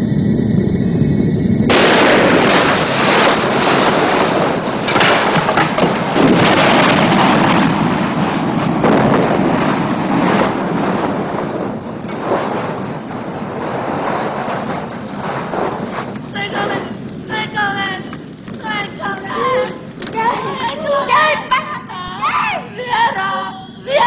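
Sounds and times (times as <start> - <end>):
loud dense rushing noise: 0.0 - 24.0.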